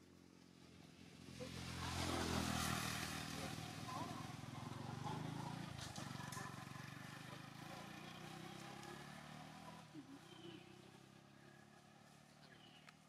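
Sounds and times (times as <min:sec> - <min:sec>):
passing vehicle engine drone: 0:00.4 - 0:12.8.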